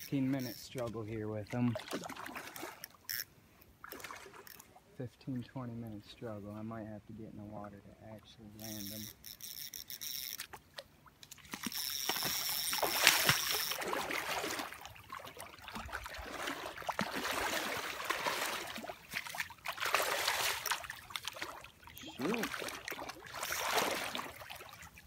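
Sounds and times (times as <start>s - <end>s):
water splashing and sloshing: 0.0s - 6.6s, 7.6s - 25.0s.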